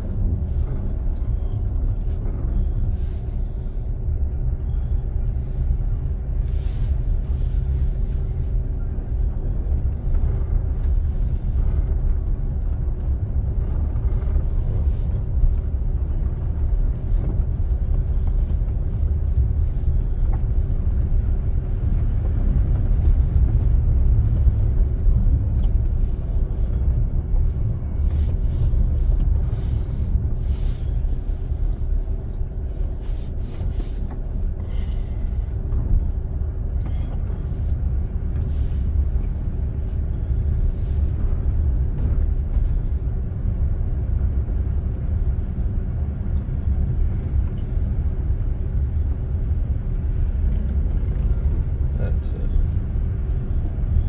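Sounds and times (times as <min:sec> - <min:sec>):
faint steady hum: 0:00.0 - 0:54.0
vehicle engine rumbling: 0:00.0 - 0:54.0.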